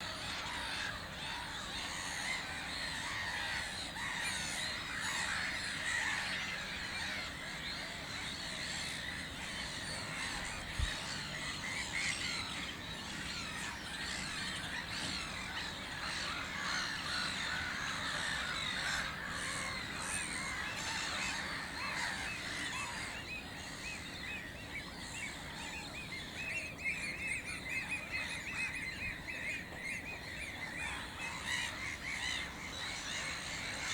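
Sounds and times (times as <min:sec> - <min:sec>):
birds chirping chorus: 0:00.0 - 0:33.9.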